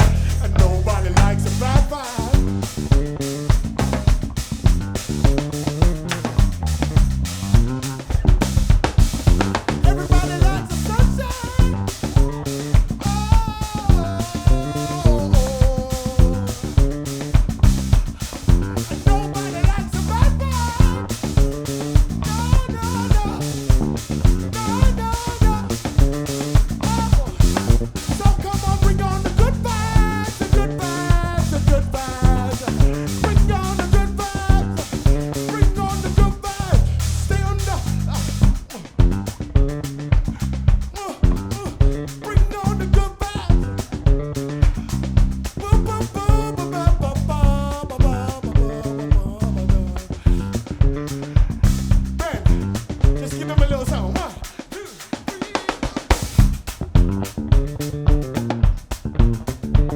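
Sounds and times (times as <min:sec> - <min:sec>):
drum kit beat: 0:00.0 - 0:59.9
funk band playing: 0:00.0 - 0:59.9.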